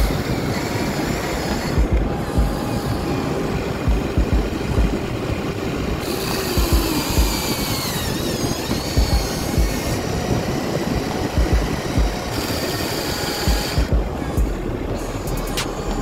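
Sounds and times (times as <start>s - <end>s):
toy electric motors whining: 0.0s - 16.0s
wind buffeting microphone: 0.0s - 16.0s.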